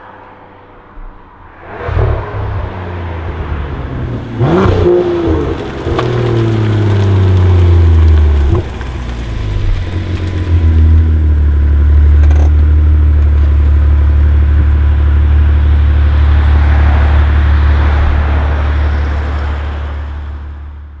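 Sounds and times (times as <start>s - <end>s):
car engine exhaust drone: 0.0s - 21.0s.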